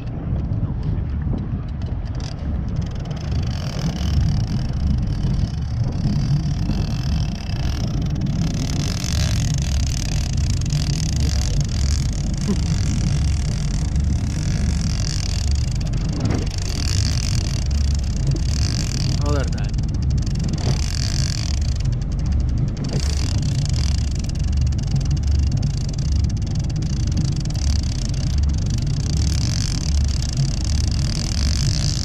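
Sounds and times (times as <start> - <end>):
motorboat engine rumbling: 0.0 - 32.0
wind and water hiss: 0.0 - 32.0.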